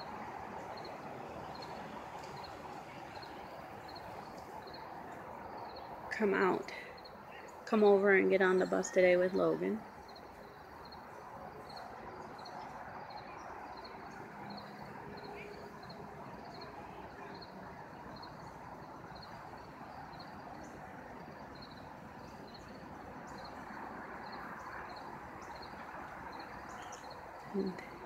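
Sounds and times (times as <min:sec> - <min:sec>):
faint background noise: 0:00.0 - 0:28.0.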